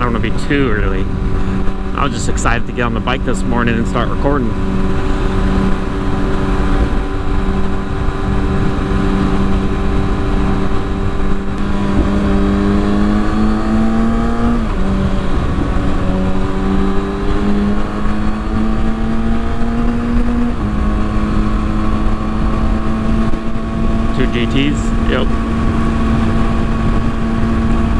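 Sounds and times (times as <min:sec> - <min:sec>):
wind noise on microphone: 0:00.0 - 0:03.4, 0:04.0 - 0:27.9
motorcycle engine revving: 0:00.0 - 0:27.9.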